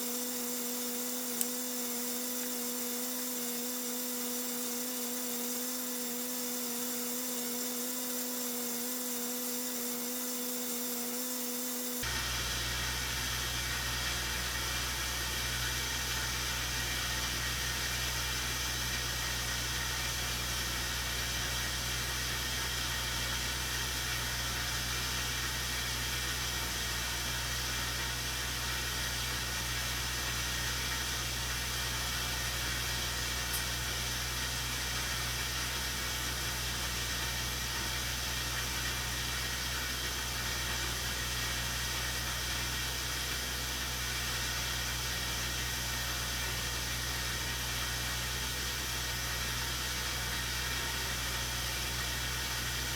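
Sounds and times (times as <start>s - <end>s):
snow blower engine running: 0.0s - 52.9s.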